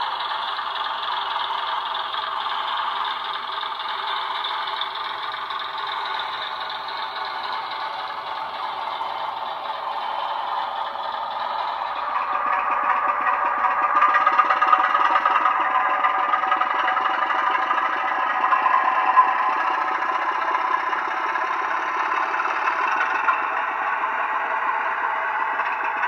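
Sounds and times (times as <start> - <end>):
thin diesel engine sound from speaker: 0.0 - 26.0.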